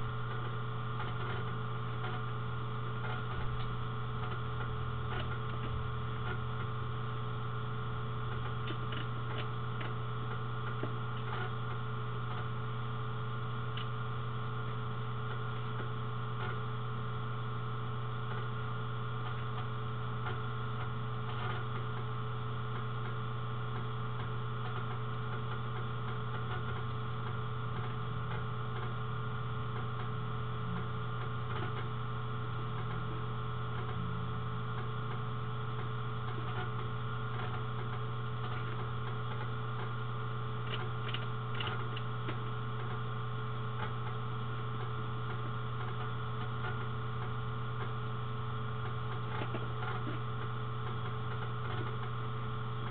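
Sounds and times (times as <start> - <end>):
low electrical hum: 0.0 - 52.9.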